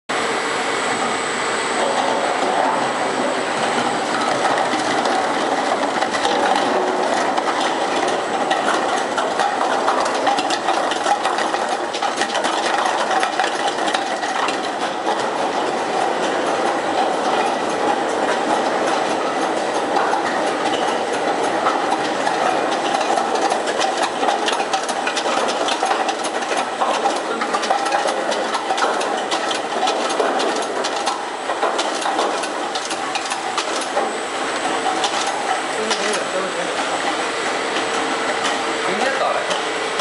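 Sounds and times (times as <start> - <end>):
machine clattering: 1.8 - 40.0.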